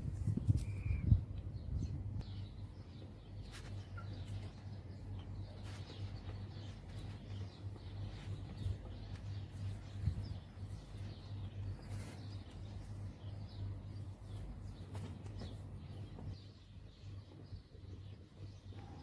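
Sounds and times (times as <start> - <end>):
steady low hum: 0.0 - 19.0
birds chirping: 0.2 - 19.0.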